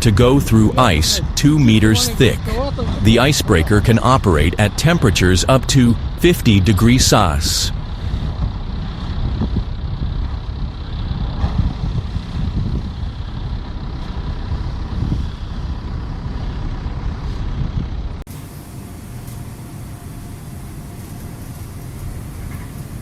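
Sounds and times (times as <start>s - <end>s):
ship engine low rumble: 0.0s - 23.0s.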